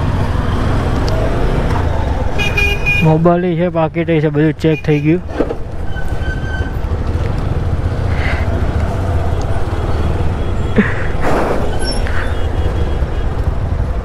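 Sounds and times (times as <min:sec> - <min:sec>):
rumble of motorcycles and traffic: 0:00.0 - 0:14.0.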